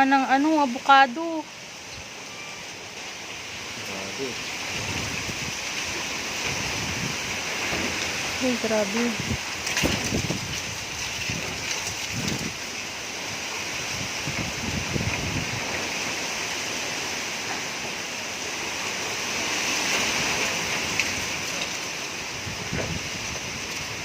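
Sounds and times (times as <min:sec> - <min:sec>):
strong wind gusting through trees: 0:00.0 - 0:24.0.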